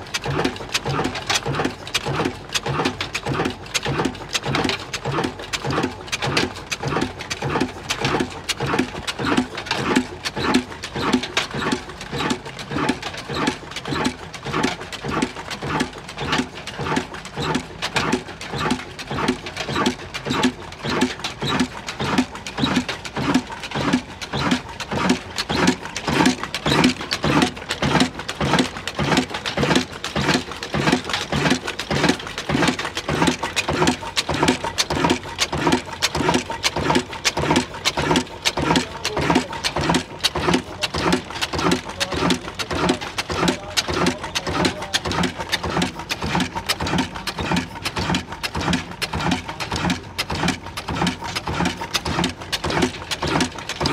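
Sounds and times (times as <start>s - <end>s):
diesel engine running slowly: 0.0s - 53.9s.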